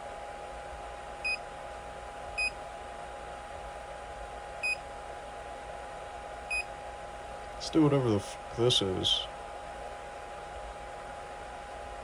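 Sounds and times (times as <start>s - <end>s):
fans humming: 0.0s - 12.0s.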